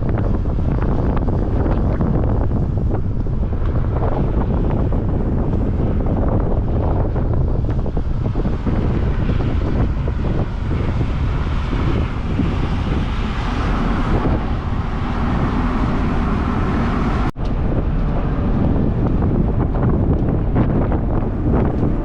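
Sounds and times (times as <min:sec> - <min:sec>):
steady low rumble: 0:00.0 - 0:22.0
wind buffeting microphone: 0:00.0 - 0:22.0.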